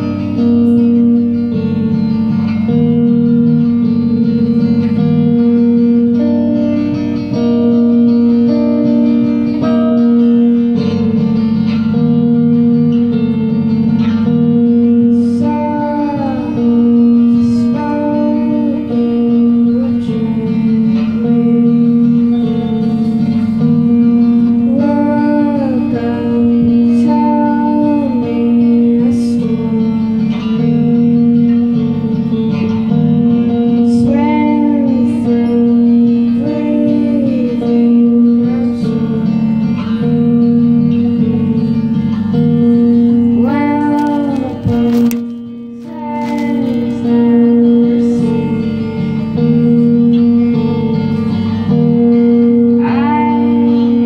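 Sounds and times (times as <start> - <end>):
electric guitars playing: 0.0 - 54.0
woman singing: 0.0 - 54.0.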